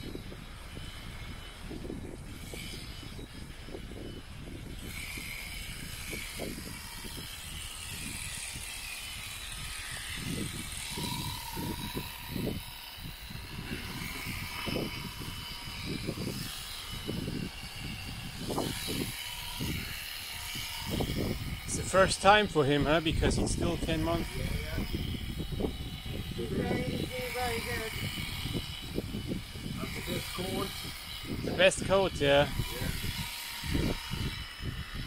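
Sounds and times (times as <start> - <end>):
electric shears cutting fleece: 0.0 - 35.0.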